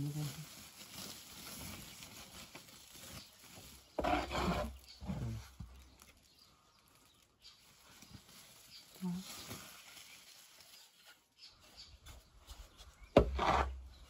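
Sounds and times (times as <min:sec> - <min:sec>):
plastic sack rustling: 0:00.0 - 0:13.1.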